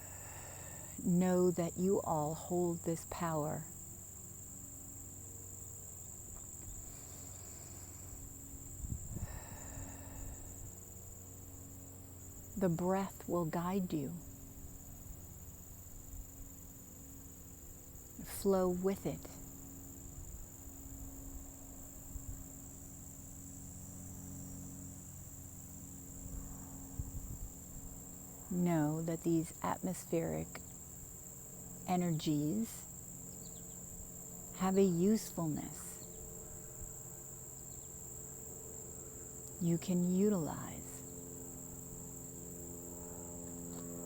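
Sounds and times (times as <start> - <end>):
crickets chirring: 0.0 - 44.0
faint low hum: 0.0 - 44.0
insects trilling: 0.0 - 44.0.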